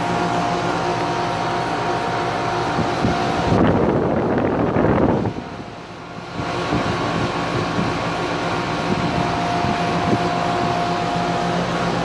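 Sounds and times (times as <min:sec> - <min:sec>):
air conditioner humming: 0:00.0 - 0:12.0
thin steady whine: 0:00.0 - 0:12.0.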